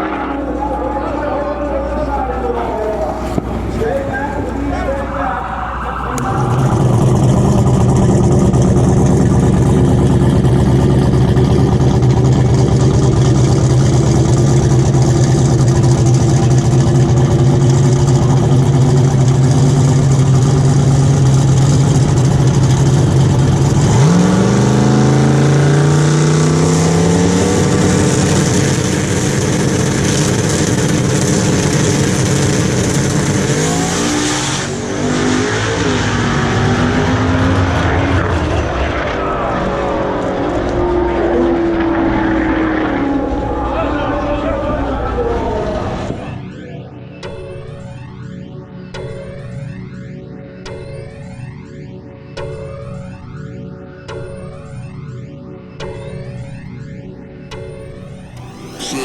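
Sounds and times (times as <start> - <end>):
car engine running: 0.0 - 46.6, 58.2 - 59.0.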